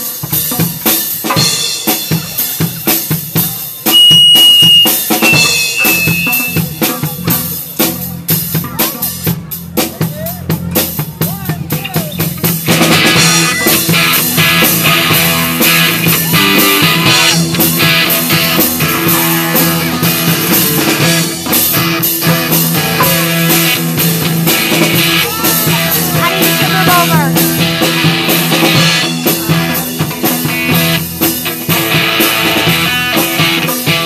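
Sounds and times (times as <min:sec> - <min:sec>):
drum kit beat: 0:00.0 - 0:34.0
electric guitar: 0:00.0 - 0:34.0.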